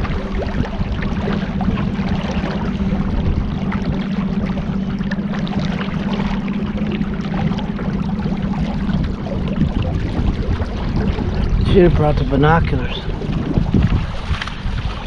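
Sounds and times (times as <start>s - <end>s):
boat motor running: 0.0s - 15.0s
wind rumbling on microphone: 0.0s - 15.0s.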